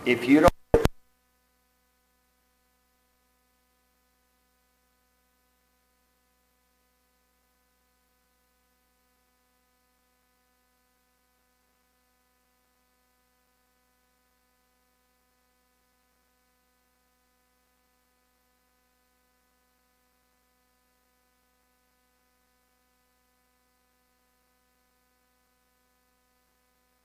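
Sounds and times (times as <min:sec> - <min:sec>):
faint electrical hum and hiss: 0:00.0 - 0:27.0.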